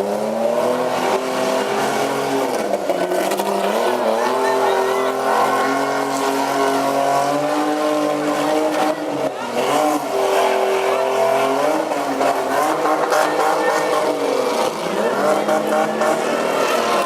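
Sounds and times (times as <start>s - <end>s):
pickup truck engines revving: 0.0s - 17.0s.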